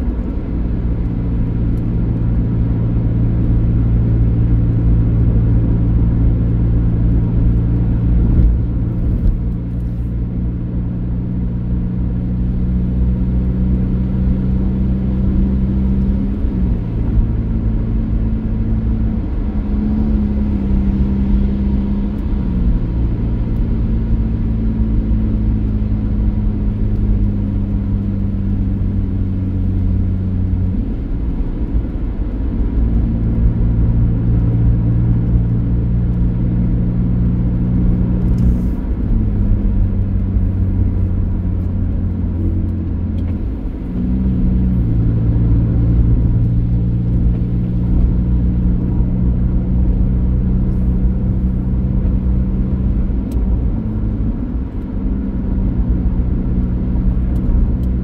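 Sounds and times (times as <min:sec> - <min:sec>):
low road rumble: 0:00.0 - 0:58.0
vehicle engine running: 0:00.0 - 0:58.0.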